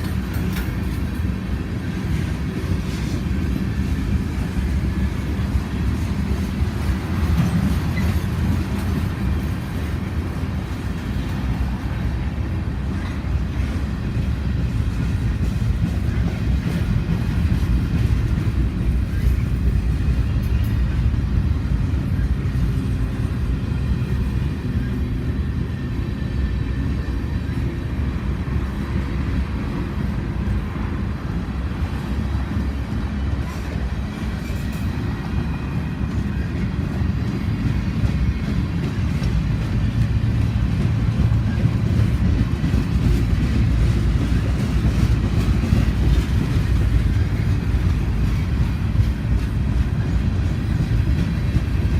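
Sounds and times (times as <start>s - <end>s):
freight train rumbling: 0.0s - 51.9s.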